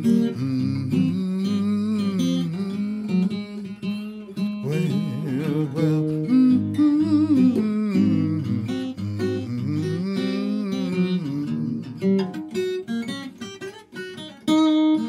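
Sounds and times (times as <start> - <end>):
blues acoustic guitar: 0.0 - 15.0.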